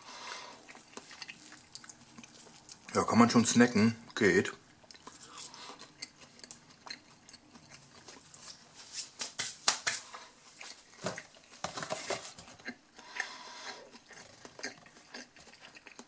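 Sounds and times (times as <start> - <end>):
crunchy chewing: 0.2 - 3.0, 4.1 - 8.8, 10.1 - 16.0.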